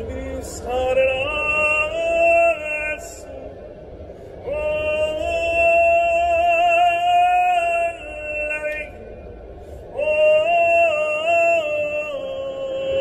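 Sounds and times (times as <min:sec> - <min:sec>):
man singing operatic song: 0:00.0 - 0:03.5, 0:04.4 - 0:09.0, 0:09.9 - 0:13.0.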